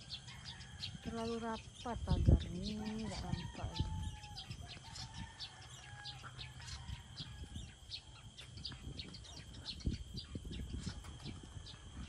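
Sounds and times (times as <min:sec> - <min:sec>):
high insect-like tone: 0:00.0 - 0:12.0.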